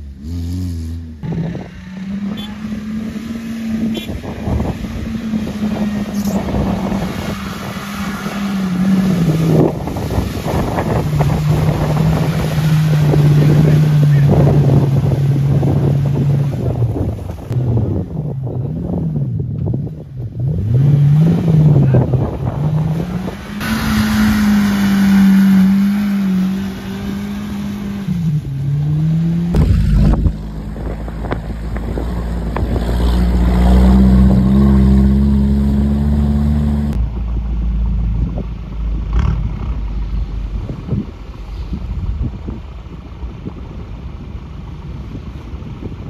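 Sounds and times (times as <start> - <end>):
off-road engines revving: 0.0 - 46.0.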